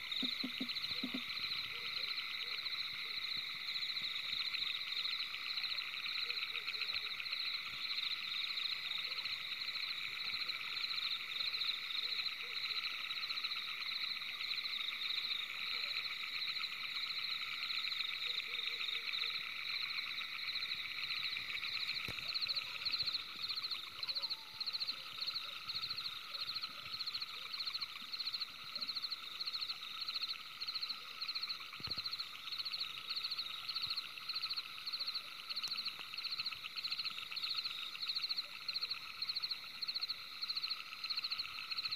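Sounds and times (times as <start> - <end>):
night chorus of animals trilling: 0.0 - 41.9.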